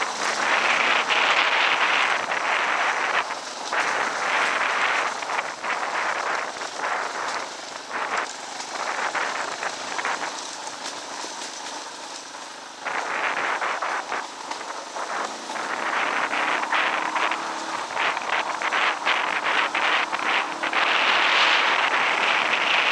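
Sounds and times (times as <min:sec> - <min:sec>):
dirt bike engine: 0:00.0 - 0:22.9
wind noise on microphone: 0:00.0 - 0:22.9.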